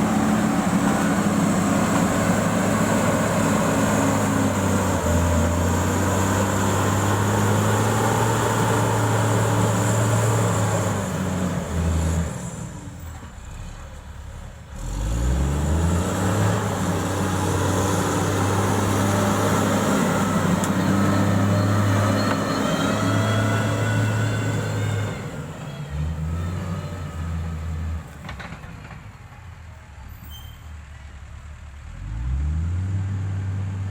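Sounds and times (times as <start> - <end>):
diesel engine running under load: 0.0 - 29.7.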